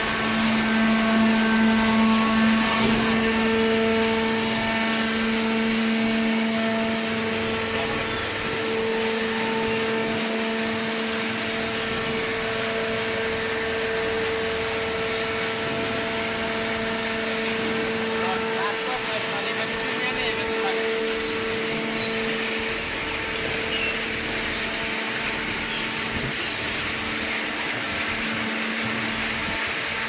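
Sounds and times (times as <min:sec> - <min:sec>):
machine humming with whine: 0:00.0 - 0:30.0.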